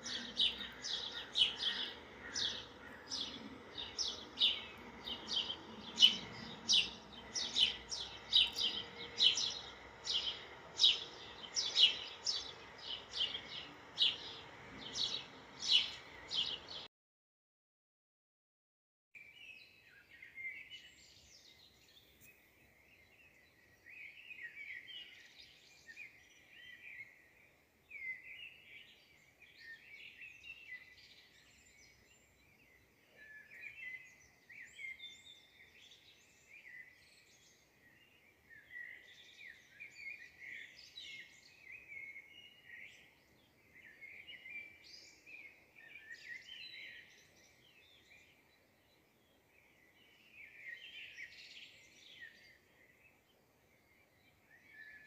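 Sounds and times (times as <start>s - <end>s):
small birds chirping: 0.0s - 16.9s, 19.2s - 55.0s.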